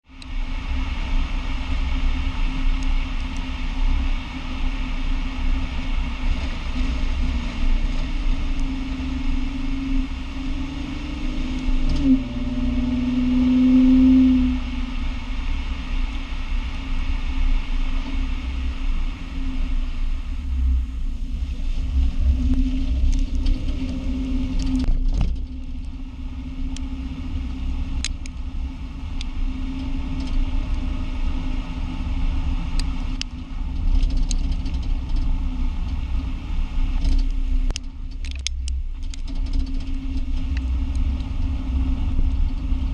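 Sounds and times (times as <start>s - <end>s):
car road rumble: 0.0s - 42.9s
low hum: 0.0s - 42.9s.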